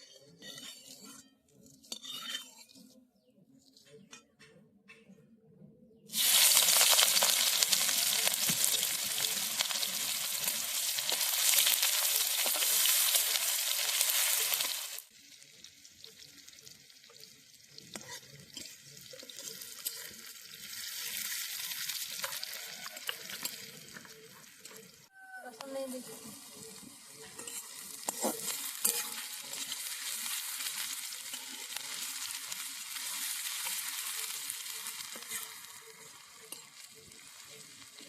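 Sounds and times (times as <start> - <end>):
onion sizzling in hot oil: 0.0 - 2.9, 6.1 - 38.0.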